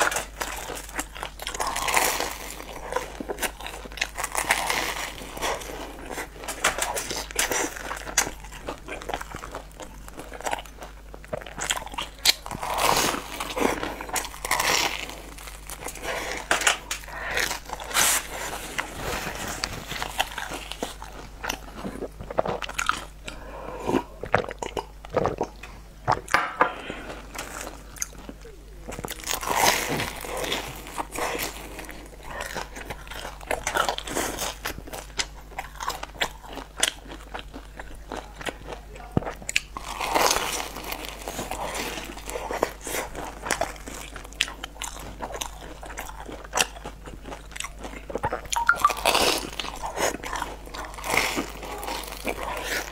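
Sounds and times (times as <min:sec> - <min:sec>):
crunchy bread chewing: 0:00.0 - 0:52.9.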